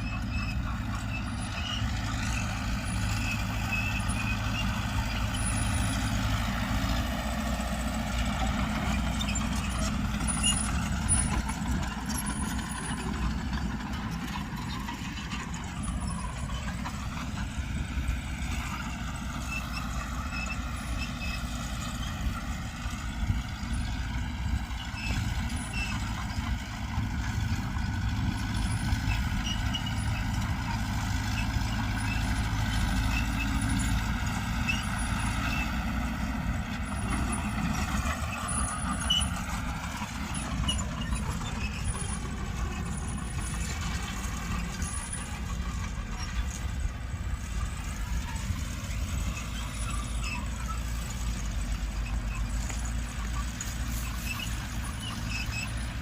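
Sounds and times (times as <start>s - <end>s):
heavy diesel machinery engines: 0.0s - 56.0s.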